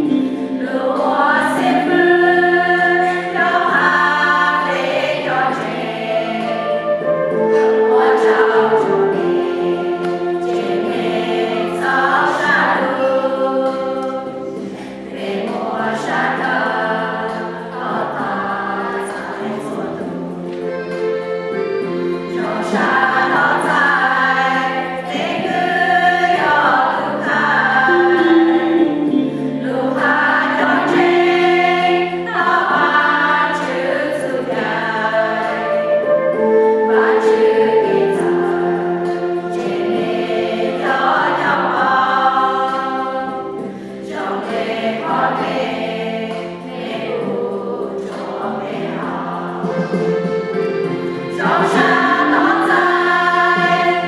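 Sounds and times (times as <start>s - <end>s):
many voices singing a hymn: 0.0s - 54.0s.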